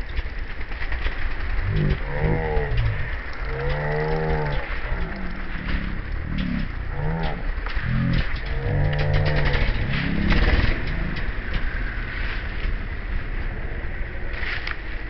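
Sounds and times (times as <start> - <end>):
low rumble: 0.0 - 15.0
motorcycle engine revving: 0.8 - 14.2.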